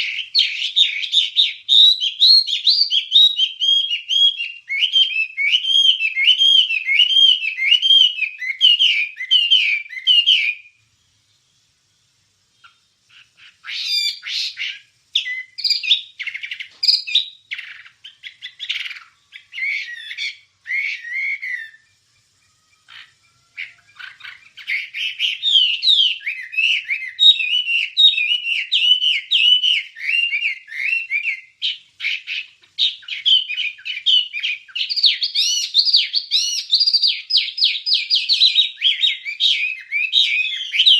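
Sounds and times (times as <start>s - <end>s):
songbird warbling: 0.0s - 11.7s, 12.4s - 40.9s.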